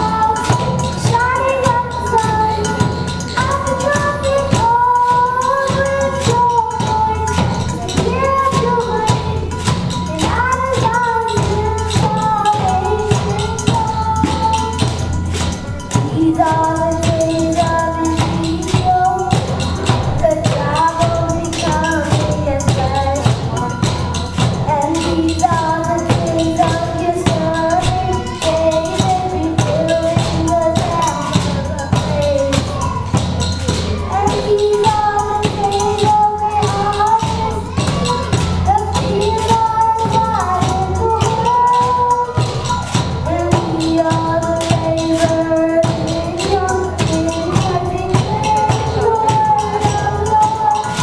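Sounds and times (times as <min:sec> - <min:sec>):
girl singing into a microphone: 0:00.0 - 0:51.0
hand-drummed steel pot: 0:00.0 - 0:51.0
kitchen utensils as percussion: 0:00.0 - 0:51.0.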